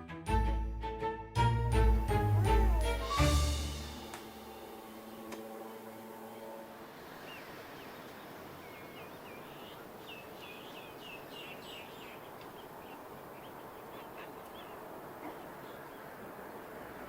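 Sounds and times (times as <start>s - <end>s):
outdoor background hiss: 1.7s - 17.0s
bird chirping: 2.0s - 17.0s.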